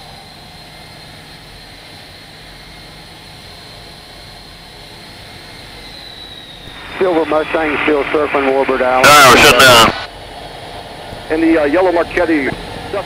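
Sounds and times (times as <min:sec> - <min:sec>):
jet engine idling with whine: 0:00.0 - 0:13.0.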